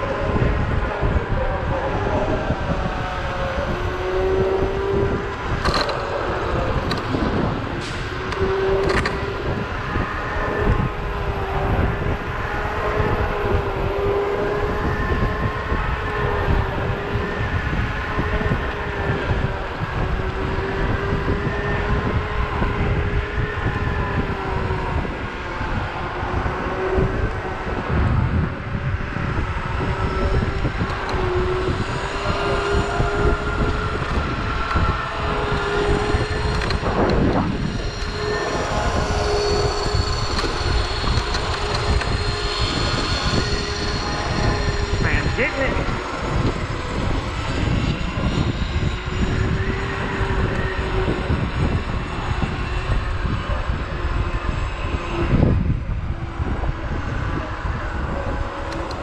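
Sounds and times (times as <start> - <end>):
wind rumble on microphone: 0.0 - 59.0
electric motor whining: 0.2 - 59.0.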